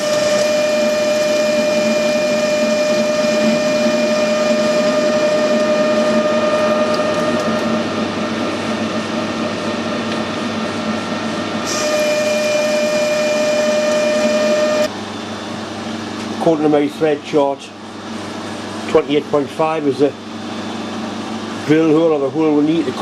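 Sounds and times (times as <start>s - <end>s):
machine tool whine and grinding hum: 0.0s - 23.0s.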